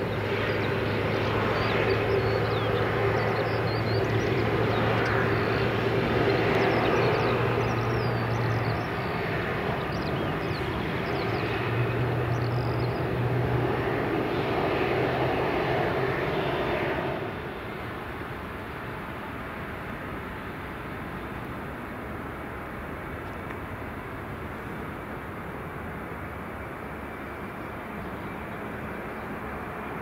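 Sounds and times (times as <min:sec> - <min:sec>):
jet engines droning: 0:00.0 - 0:30.0.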